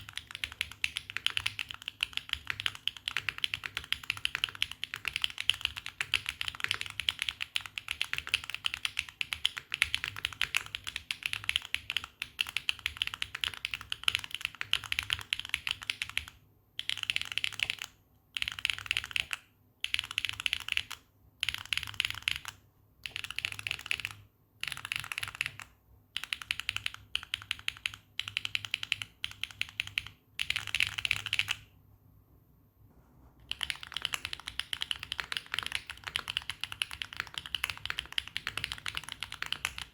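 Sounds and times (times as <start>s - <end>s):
mechanical keyboard typing: 0.0s - 31.7s, 33.5s - 39.9s.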